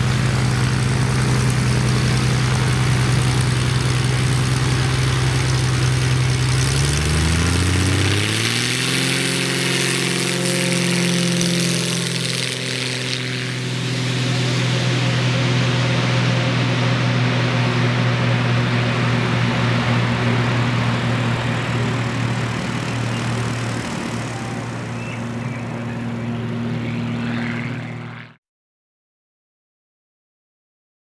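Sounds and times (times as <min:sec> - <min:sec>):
propeller plane engine droning: 0:00.0 - 0:28.4.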